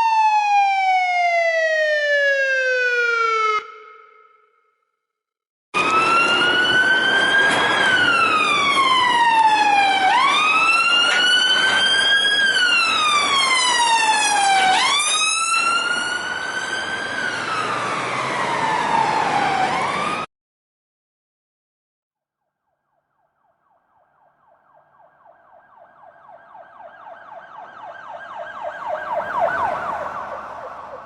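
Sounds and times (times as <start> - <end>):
emergency siren wailing: 0.0 - 4.6, 5.8 - 20.3, 22.6 - 31.0.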